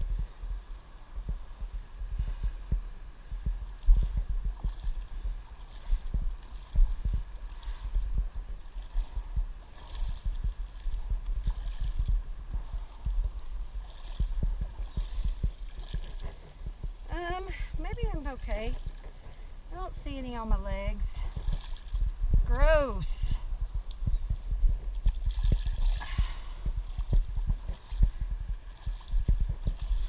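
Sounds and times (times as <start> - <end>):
faint water splashing: 0.0 - 30.0
muffled thumps on microphone: 1.2 - 19.4, 23.5 - 30.0.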